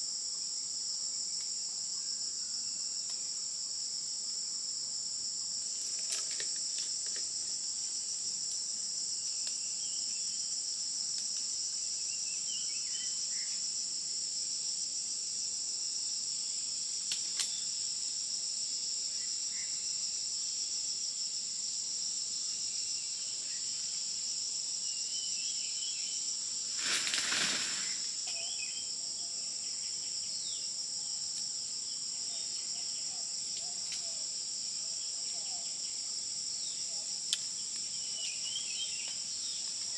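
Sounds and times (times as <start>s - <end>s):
shrill insect chorus: 0.0s - 39.9s.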